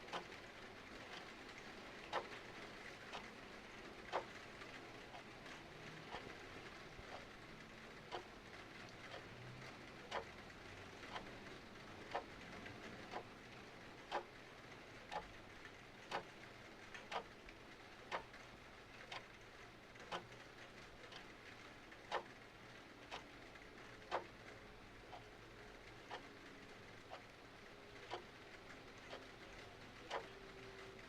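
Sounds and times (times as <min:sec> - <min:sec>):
clock ticking: 0:00.0 - 0:00.4, 0:01.0 - 0:03.3, 0:03.9 - 0:07.4, 0:08.0 - 0:08.3, 0:09.0 - 0:09.4, 0:10.0 - 0:31.0.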